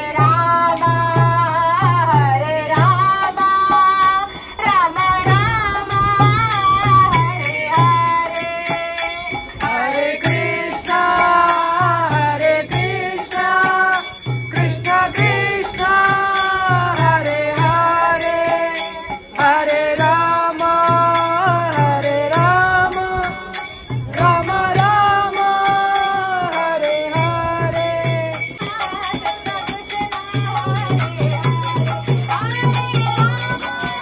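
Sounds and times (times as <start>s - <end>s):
person chanting a melody: 0.0s - 34.0s
ringing hand cymbals: 0.0s - 34.0s
steady drum beat: 0.0s - 34.0s.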